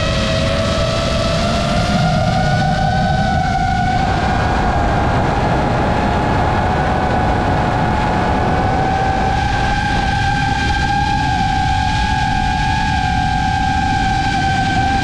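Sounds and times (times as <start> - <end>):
drone motors whining: 0.0 - 15.0
rush of wind: 0.0 - 15.0.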